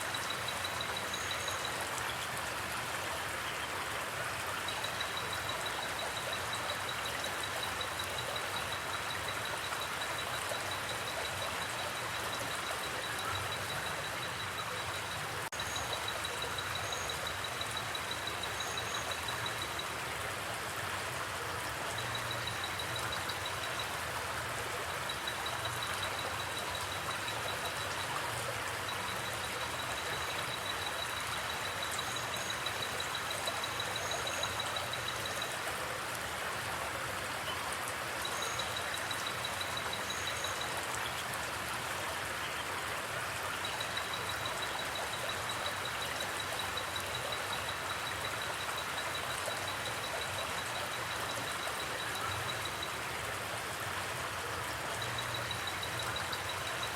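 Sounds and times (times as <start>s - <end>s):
water rushing in creek: 0.0s - 56.9s.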